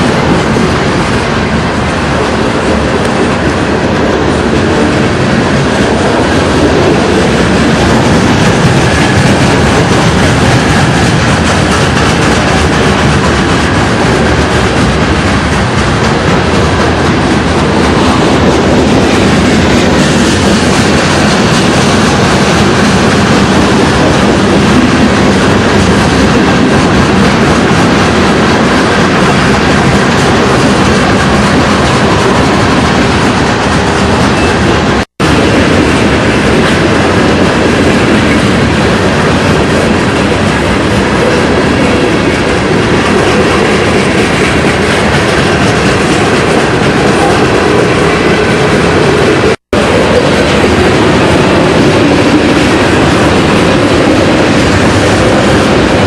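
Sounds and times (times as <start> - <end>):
train wheels clattering on track: 0.0 - 56.0.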